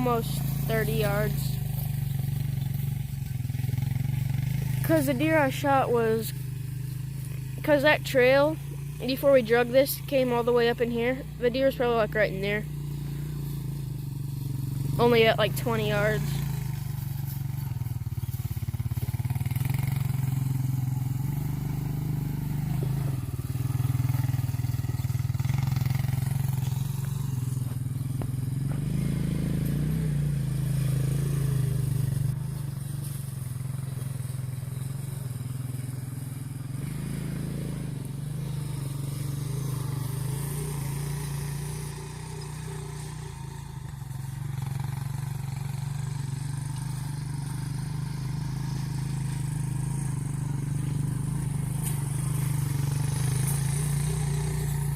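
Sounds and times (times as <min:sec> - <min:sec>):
small engine running: 0:00.0 - 0:54.9.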